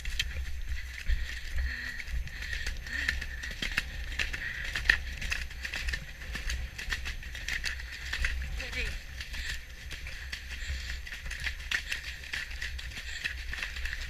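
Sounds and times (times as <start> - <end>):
horse hoofbeats on mud: 0.0 - 14.0
wind rumble on microphone: 0.0 - 14.0.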